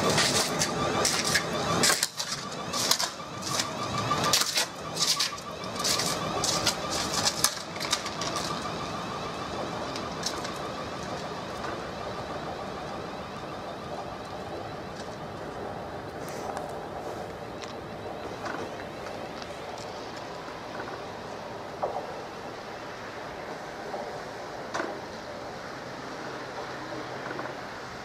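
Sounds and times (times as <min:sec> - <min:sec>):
electric train whine: 0:00.0 - 0:28.0.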